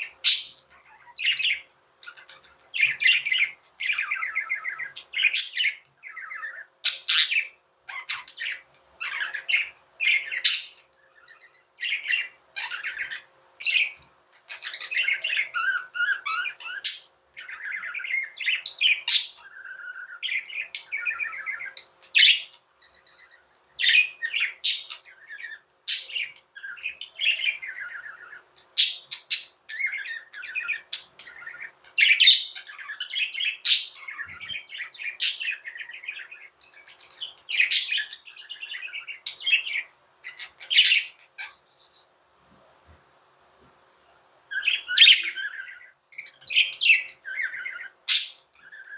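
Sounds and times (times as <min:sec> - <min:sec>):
budgerigars chirping and warbling: 0:00.0 - 0:42.2, 0:44.2 - 0:48.9.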